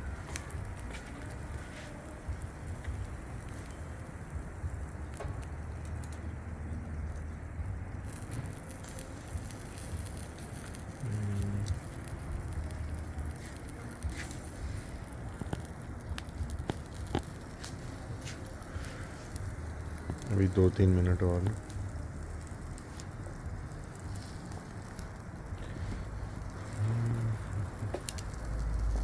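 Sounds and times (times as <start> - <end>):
fish grilling over charcoal: 0.0 - 29.0
pops and crackles: 0.0 - 29.0.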